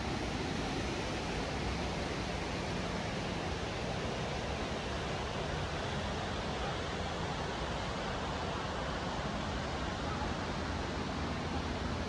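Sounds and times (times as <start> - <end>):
rushing stream water: 0.0 - 12.0.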